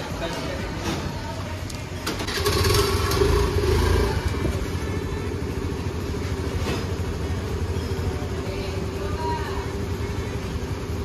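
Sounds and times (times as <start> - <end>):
scooter engine idling: 1.8 - 11.0.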